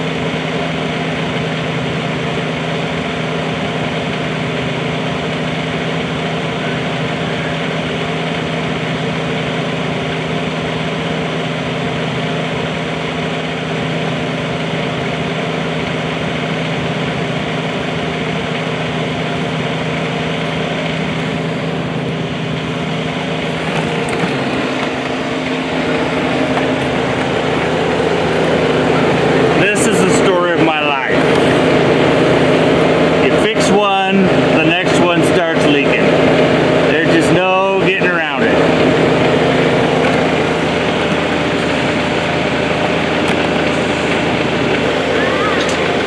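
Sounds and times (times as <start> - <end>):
mini excavator diesel engine running: 0.0 - 46.0.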